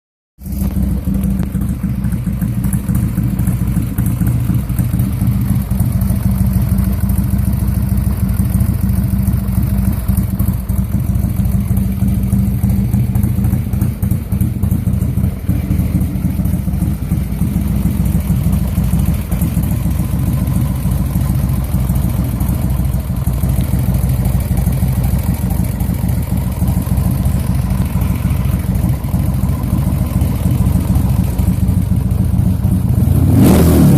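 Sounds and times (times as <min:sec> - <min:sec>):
motorcycle engine idling: 0:00.4 - 0:33.4.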